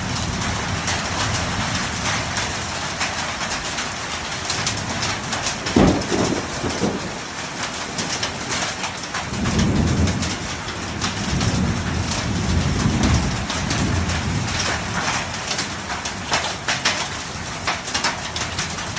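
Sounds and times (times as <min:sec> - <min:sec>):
hailstones ticking: 0:00.0 - 0:18.9
heavy rain hissing: 0:00.0 - 0:18.9.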